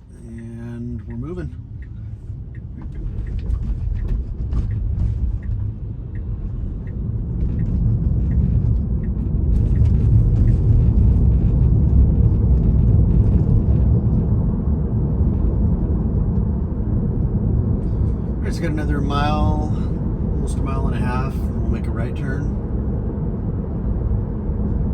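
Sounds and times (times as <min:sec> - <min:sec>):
tyre and road noise: 0:00.0 - 0:24.9.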